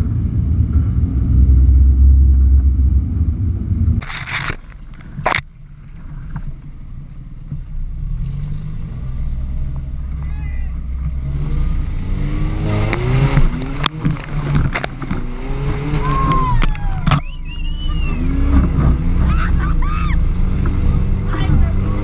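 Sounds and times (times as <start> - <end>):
engine low rumble: 0.0 - 22.0.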